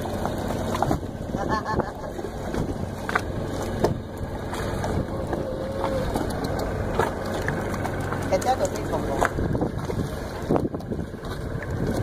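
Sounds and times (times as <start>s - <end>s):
lapping water: 0.0s - 12.0s
wind: 0.0s - 12.0s.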